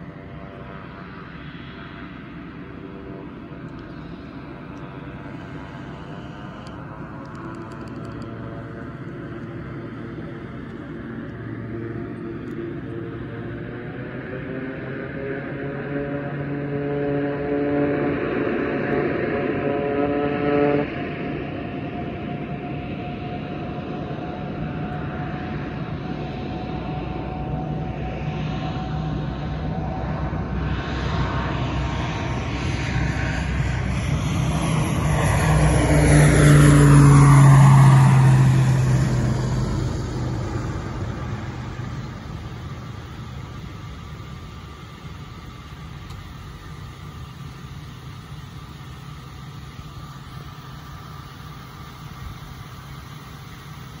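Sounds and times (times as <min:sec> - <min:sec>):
airplane taking off: 0:00.0 - 0:54.0.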